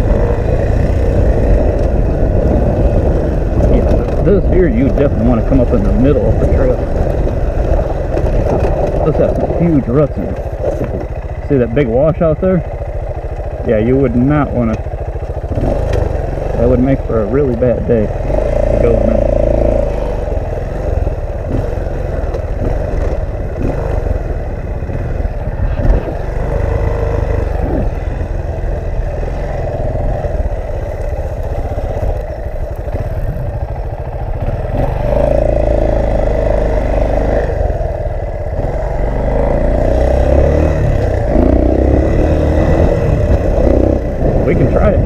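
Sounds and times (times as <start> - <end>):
rattles from bumps: 0.0 - 37.5
off-road motorcycle engine: 0.0 - 45.0
wind buffeting microphone: 0.0 - 45.0.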